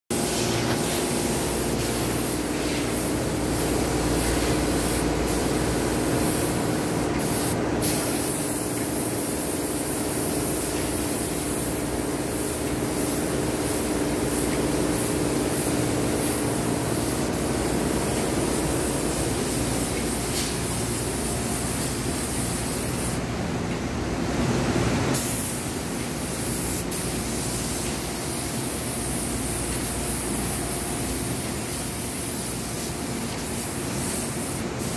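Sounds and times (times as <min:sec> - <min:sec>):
spray gun hissing: 0:00.1 - 0:23.2, 0:25.2 - 0:34.9
steady low hum: 0:00.1 - 0:33.9.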